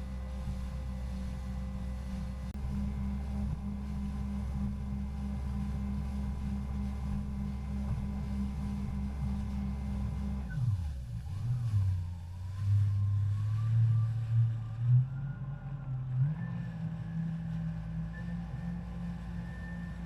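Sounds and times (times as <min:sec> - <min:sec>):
jet ski engine running: 0:00.0 - 0:20.0.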